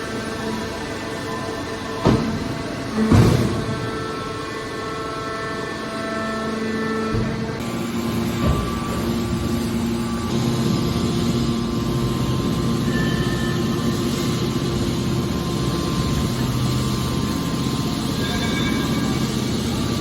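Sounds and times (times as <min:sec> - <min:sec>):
steady hum tones: 0:00.0 - 0:20.0.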